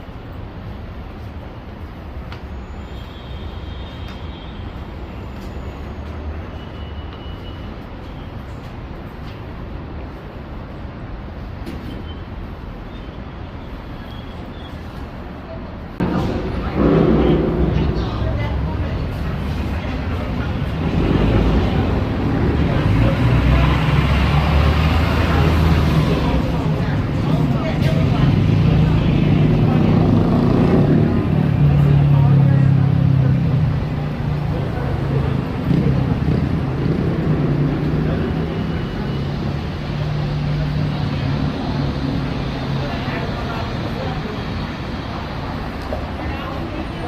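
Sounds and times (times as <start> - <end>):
vehicle rumble: 4.0 - 47.0.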